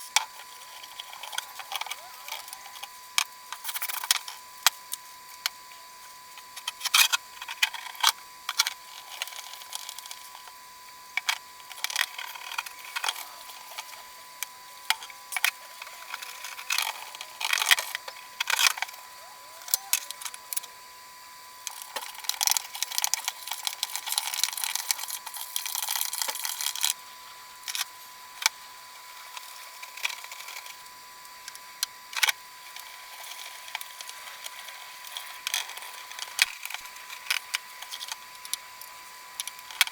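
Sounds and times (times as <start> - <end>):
faint steady whine: 0.0 - 39.9.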